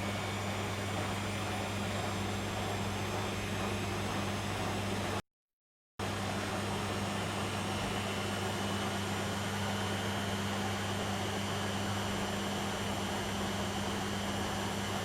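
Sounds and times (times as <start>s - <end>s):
washing machine running: 0.0s - 5.2s, 6.0s - 15.0s.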